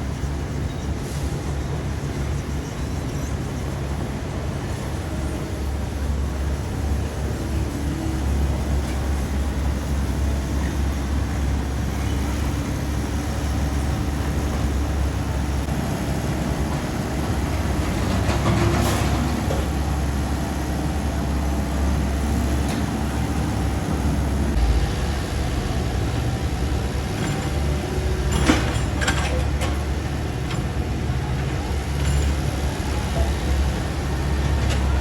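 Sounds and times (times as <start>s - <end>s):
diesel engine deep rumble: 0.0s - 35.0s.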